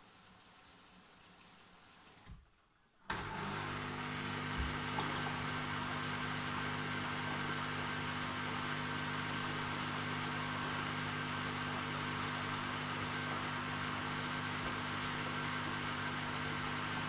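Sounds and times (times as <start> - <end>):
washing machine humming drone: 3.0 - 17.0.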